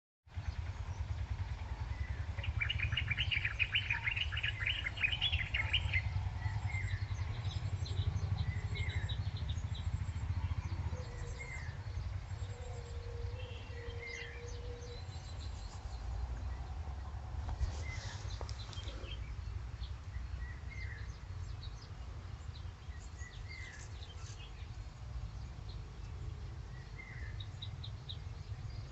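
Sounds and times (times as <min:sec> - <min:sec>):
steady low rumble: 0:00.3 - 0:28.9
small birds chirping: 0:00.4 - 0:28.9.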